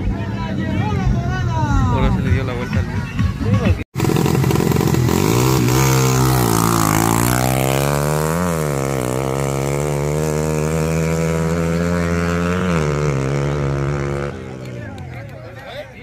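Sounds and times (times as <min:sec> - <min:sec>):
motorcycle engines revving: 0:01.7 - 0:16.0.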